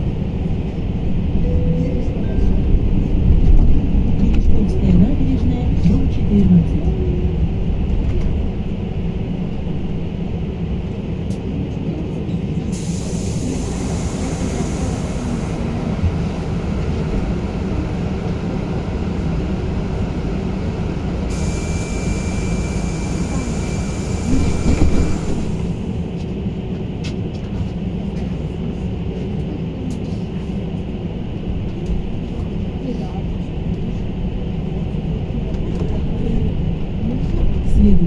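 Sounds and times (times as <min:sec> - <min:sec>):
low rumble of road and tyres: 0:00.0 - 0:38.0.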